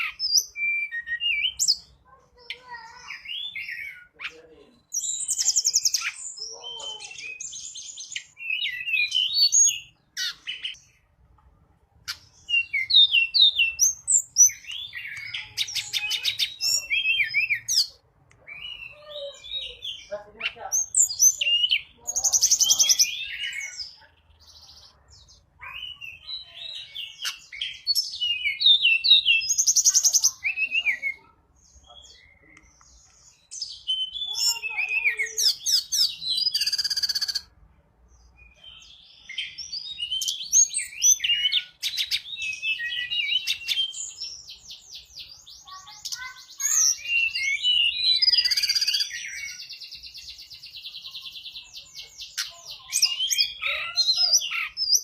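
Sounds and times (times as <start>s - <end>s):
bird song chirps and trills: 0.0s - 55.0s.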